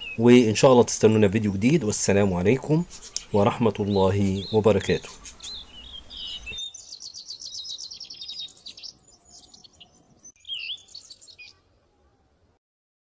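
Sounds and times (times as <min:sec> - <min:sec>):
songbirds singing and chirping: 0:00.0 - 0:11.9.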